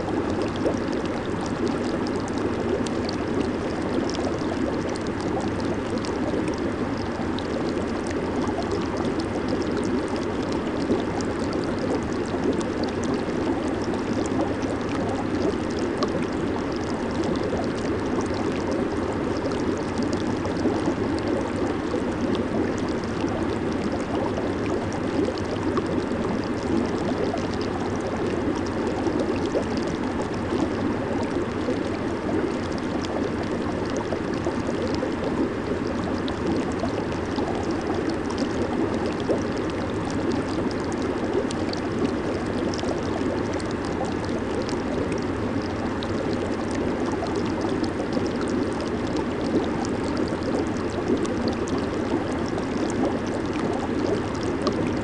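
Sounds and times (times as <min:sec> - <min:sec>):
hot tub water bubbling: 0:00.0 - 0:55.0.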